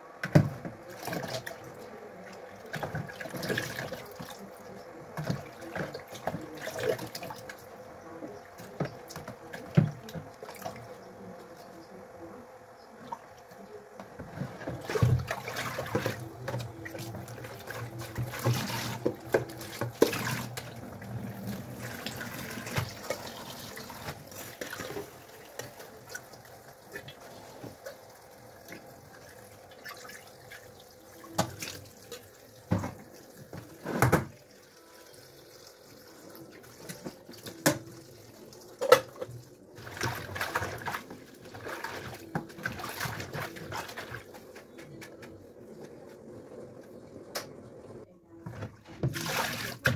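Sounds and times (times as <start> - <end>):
water splashing in sink: 0.2 - 12.0, 12.9 - 46.2, 46.8 - 49.9.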